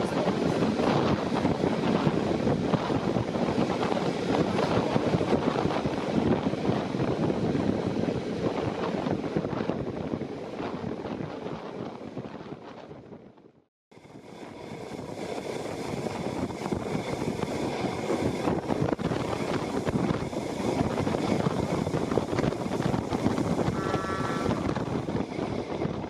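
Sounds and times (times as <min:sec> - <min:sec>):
train wheels rumbling: 0:00.0 - 0:12.6, 0:14.0 - 0:26.0
wind buffeting microphone: 0:00.0 - 0:26.0.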